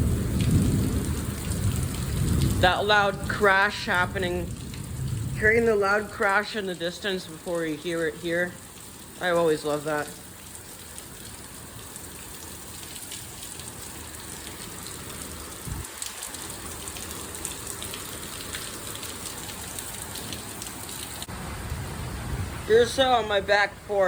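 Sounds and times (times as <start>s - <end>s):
rain spattering on surfaces: 0.0s - 24.0s.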